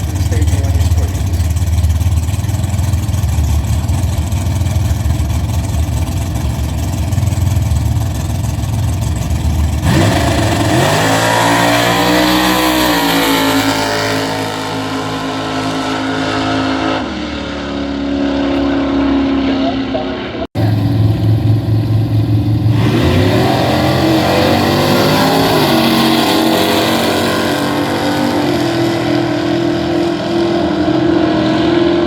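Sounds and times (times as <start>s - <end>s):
racing car engines revving: 0.0s - 32.0s.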